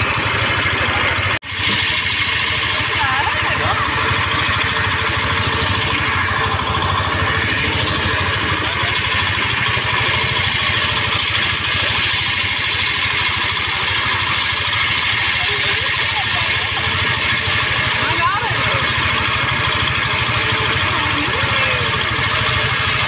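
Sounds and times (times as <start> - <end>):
motorboat engine chugging: 0.0 - 23.0.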